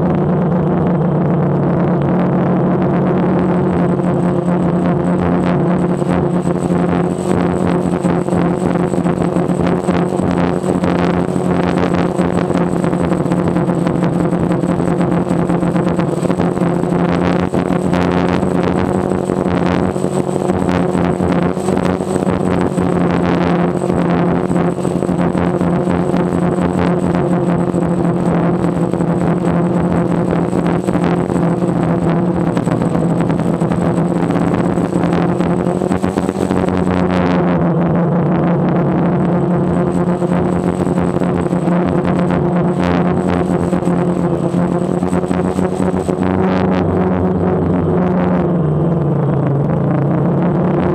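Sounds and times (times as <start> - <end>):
drone propellers buzzing: 0.0 - 50.9.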